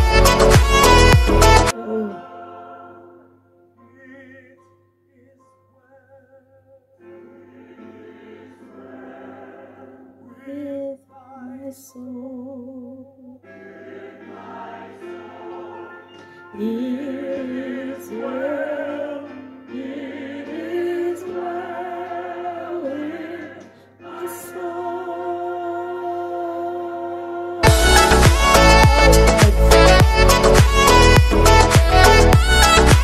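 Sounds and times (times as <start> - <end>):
choir and operatic singing: 0.6 - 4.6, 7.0 - 11.6, 12.2 - 33.0.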